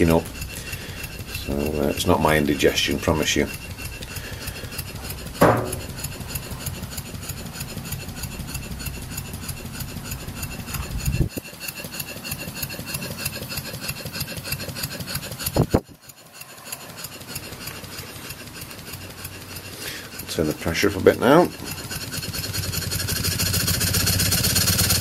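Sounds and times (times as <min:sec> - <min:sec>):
model steam engine running: 0:00.0 - 0:25.0.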